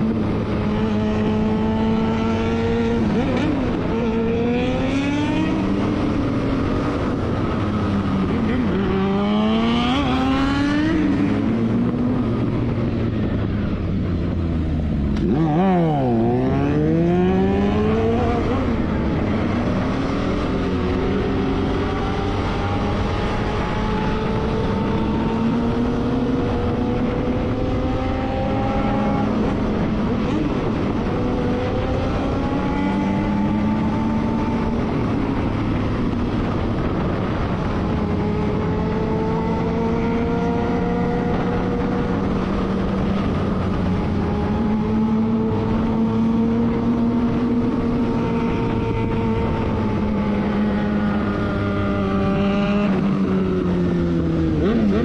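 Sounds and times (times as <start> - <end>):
motorcycle engine shifting gears: 0.0 - 55.0.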